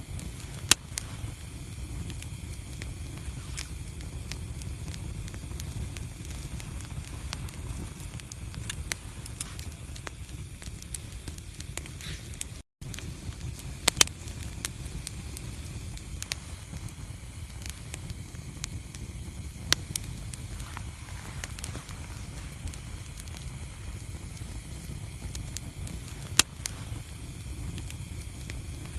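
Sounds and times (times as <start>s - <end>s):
fire crackling and popping: 0.0s - 28.9s
wood fire flames rumbling: 0.0s - 28.9s.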